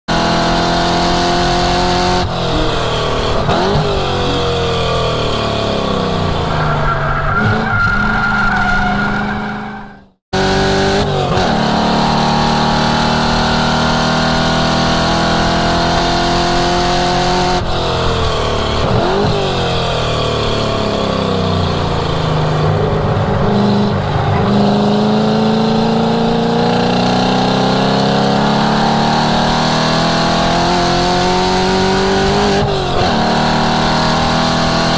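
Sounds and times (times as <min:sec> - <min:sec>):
car engine revving through gears: 0:00.1 - 0:34.9.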